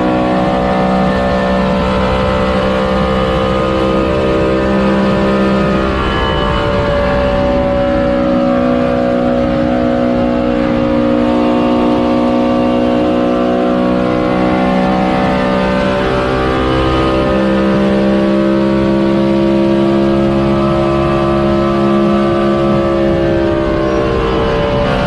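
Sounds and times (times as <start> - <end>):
race car engine high-revving: 0.0 - 25.0.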